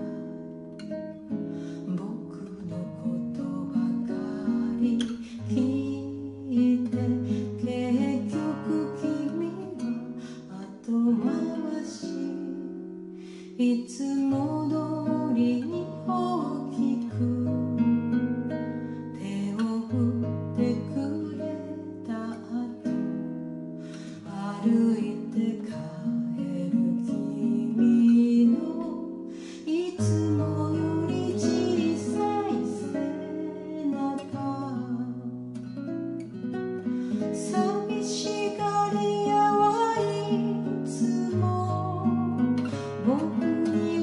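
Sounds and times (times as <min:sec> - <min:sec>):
classical guitar fingerstyle: 0:00.0 - 0:44.0.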